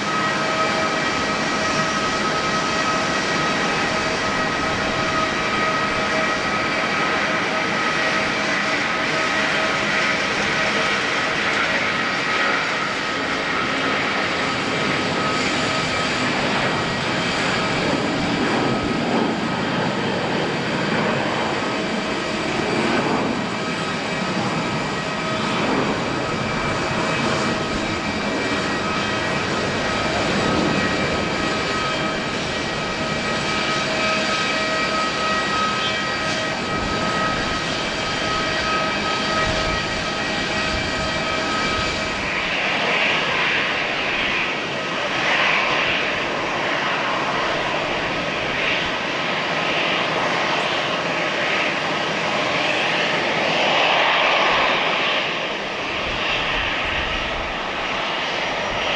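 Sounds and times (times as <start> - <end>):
jet engines running: 0.0 - 58.9.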